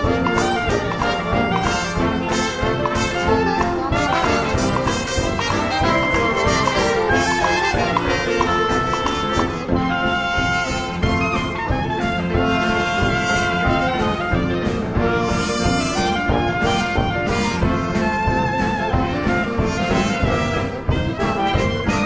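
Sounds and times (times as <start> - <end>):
jazz band playing: 0.0 - 22.0
trombone: 0.0 - 22.0.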